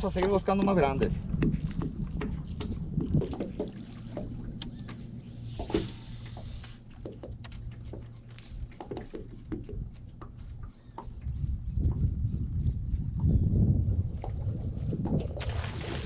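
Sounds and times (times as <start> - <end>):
water lapping at boat hull: 0.0 - 12.1, 12.9 - 16.0.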